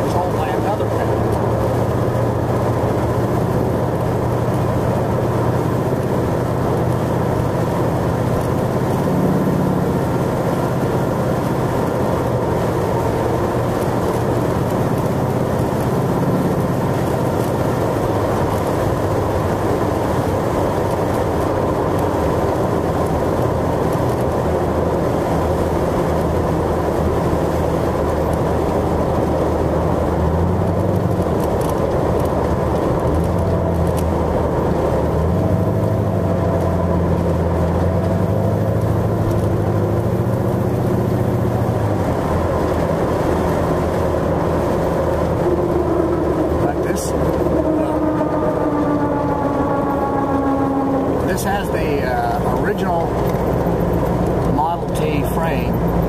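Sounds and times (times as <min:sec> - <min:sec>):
car engine cruising: 0:00.0 - 0:56.0
road noise: 0:00.0 - 0:56.0.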